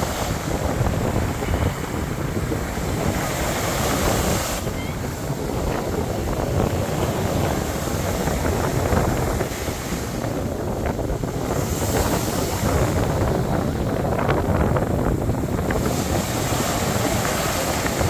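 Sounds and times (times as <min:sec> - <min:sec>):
waves breaking on shore: 0:00.0 - 0:18.0
wind buffeting microphone: 0:00.0 - 0:18.0.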